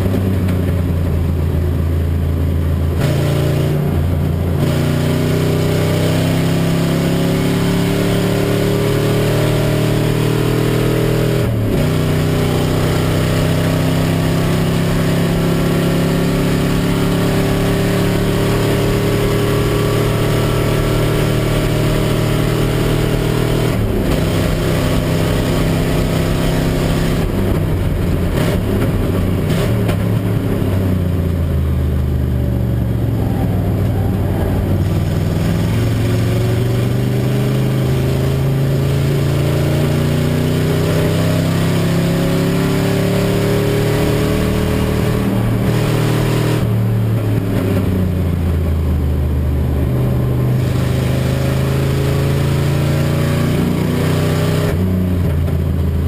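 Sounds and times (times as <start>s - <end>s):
race car engine revving: 0.0s - 55.8s.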